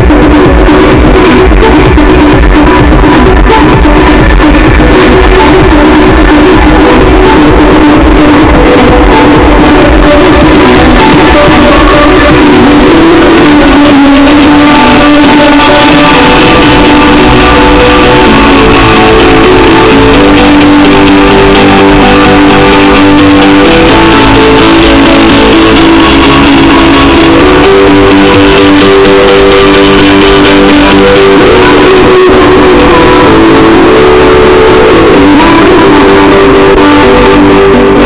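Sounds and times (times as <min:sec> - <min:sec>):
loud guitar music through car speakers: 0:00.0 - 0:38.0.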